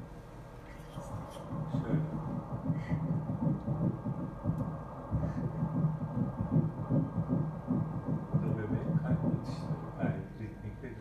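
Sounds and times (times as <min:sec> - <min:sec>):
doppler heartbeat pulses: 0:01.0 - 0:10.7.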